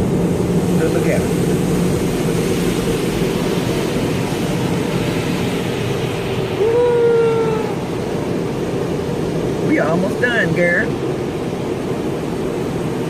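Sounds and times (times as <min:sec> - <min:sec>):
car wash water spray rushing: 0:00.0 - 0:13.0.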